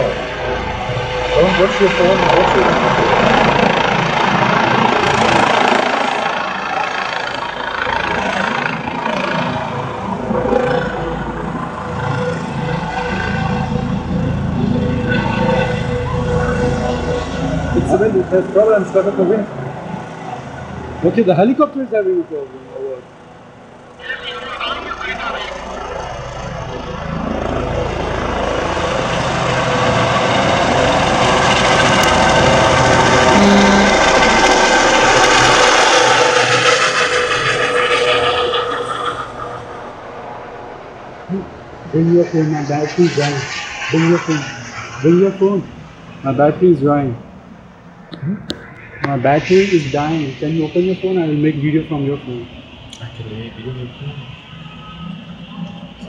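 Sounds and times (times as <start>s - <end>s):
city street traffic: 0.0s - 56.0s
helicopter rotor and engine: 0.0s - 56.0s
steady tone: 0.0s - 56.0s.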